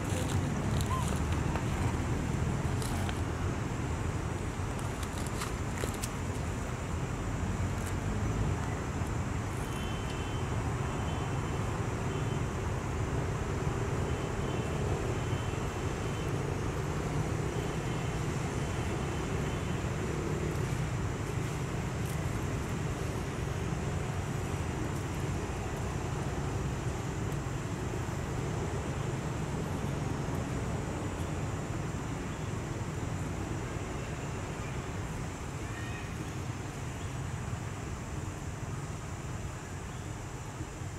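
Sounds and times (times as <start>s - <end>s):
outdoor background rumble: 0.0s - 39.6s.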